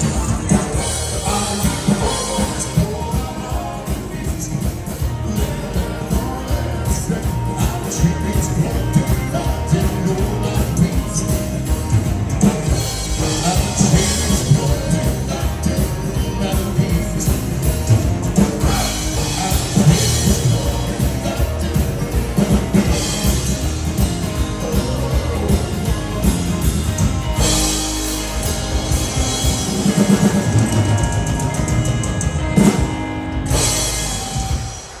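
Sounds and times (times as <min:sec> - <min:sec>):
live band playing through a pa: 0:00.0 - 0:35.0.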